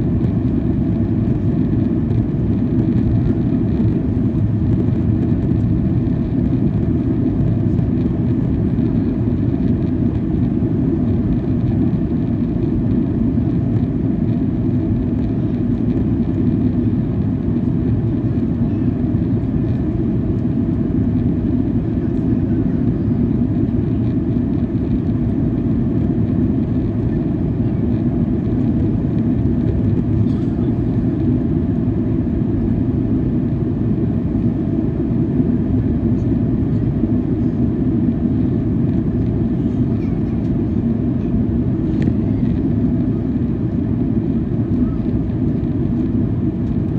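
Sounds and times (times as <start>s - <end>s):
airplane cabin engine roar: 0.0s - 46.9s.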